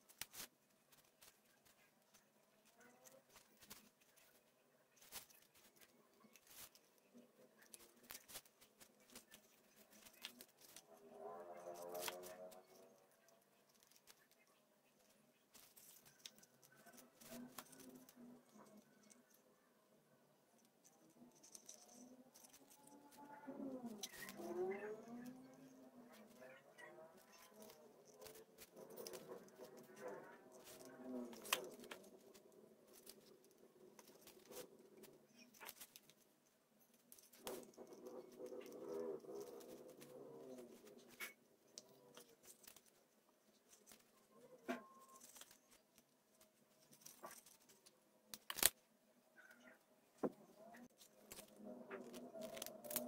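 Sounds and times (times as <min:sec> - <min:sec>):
hand-sewing clicks and rustles: 0:00.0 - 0:53.0.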